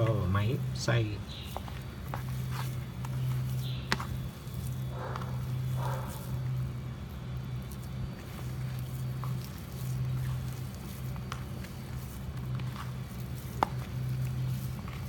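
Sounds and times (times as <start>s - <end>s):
hands kneading soft mash: 0.0s - 15.0s
soft squishes: 0.0s - 15.0s
steady low hum: 0.0s - 15.0s.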